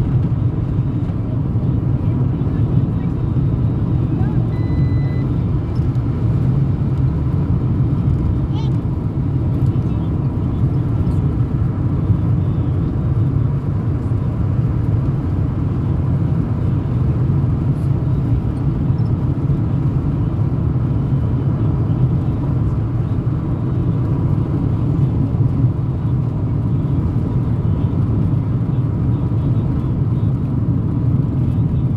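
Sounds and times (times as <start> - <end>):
car engine and road noise: 0.0 - 31.9.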